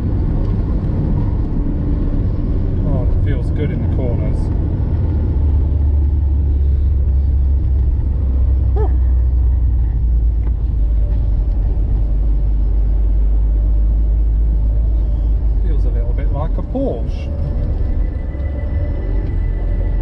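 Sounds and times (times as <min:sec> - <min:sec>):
car engine and road drone: 0:00.0 - 0:20.0.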